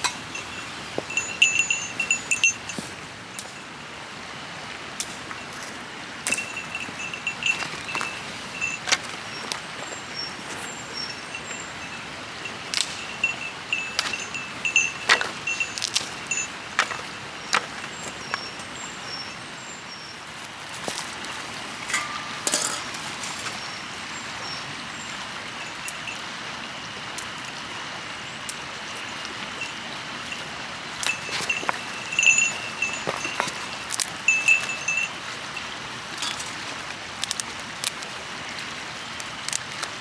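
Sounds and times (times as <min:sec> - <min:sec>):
metallic clinks of camp gear: 0:00.0 - 0:03.9, 0:05.0 - 0:19.4, 0:20.4 - 0:24.6, 0:28.5 - 0:38.1
river rushing: 0:00.0 - 0:40.0.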